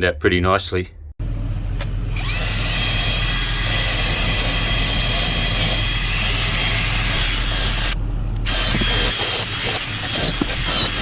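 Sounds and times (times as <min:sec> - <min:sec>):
electric motor whining and running: 0:02.1 - 0:11.0.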